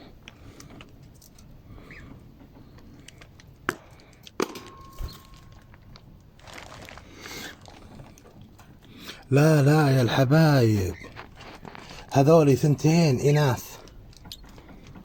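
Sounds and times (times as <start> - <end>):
rustling: 0.3 - 15.0.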